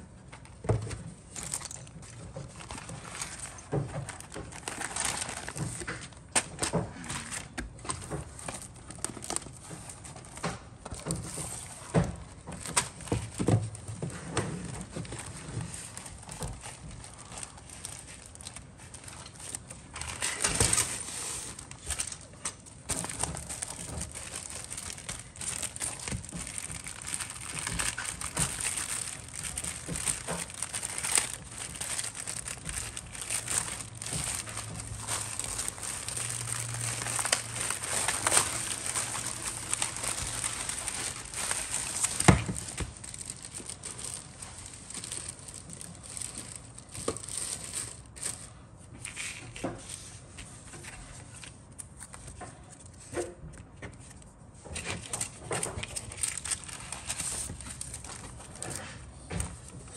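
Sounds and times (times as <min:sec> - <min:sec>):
plastic bag crinkling: 0:00.0 - 0:49.4, 0:55.0 - 0:59.9.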